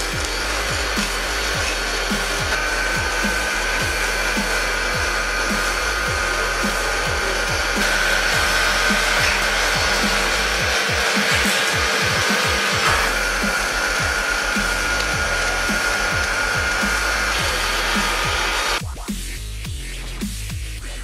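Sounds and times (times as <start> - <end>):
log-rounding machine whirring: 0.0 - 18.8
background music with low beat: 0.0 - 21.0.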